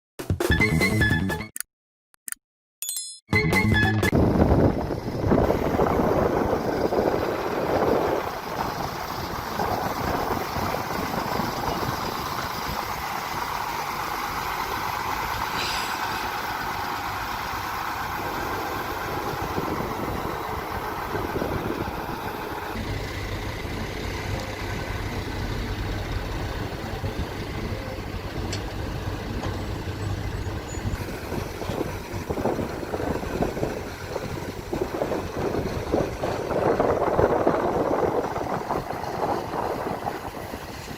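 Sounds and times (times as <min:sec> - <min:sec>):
excavator diesel engine running: 0:03.6 - 0:40.9.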